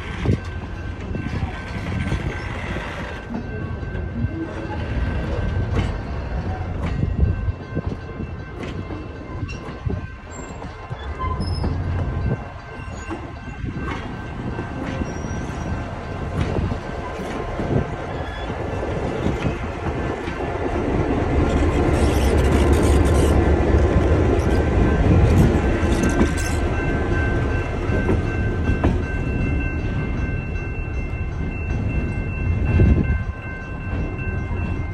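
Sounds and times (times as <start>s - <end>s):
train wheel clatter: 0.0s - 20.6s, 21.2s - 30.4s.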